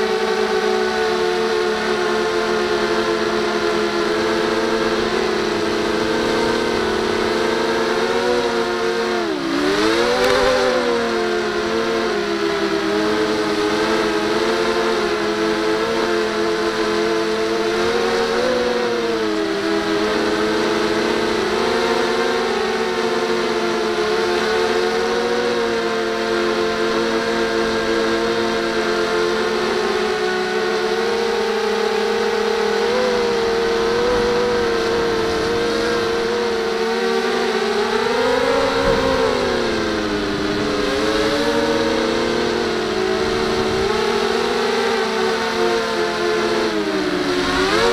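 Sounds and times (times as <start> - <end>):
drone motors humming: 0.0 - 47.9.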